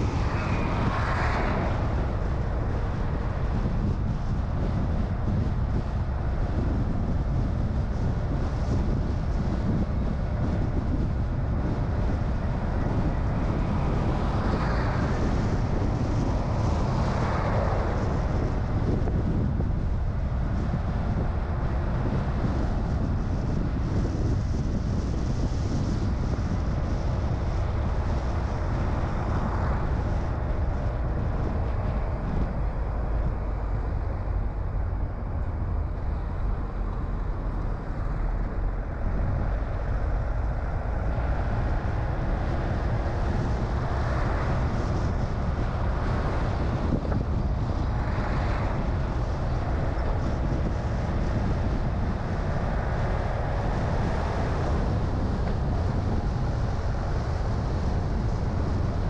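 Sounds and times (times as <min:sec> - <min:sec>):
car engine and tyre rumble: 0:00.0 - 0:59.0
wind on microphone: 0:00.0 - 0:59.0.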